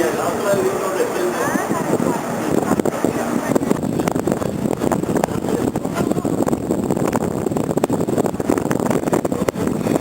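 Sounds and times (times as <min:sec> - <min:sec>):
ship engine rumble: 0:00.0 - 0:10.0.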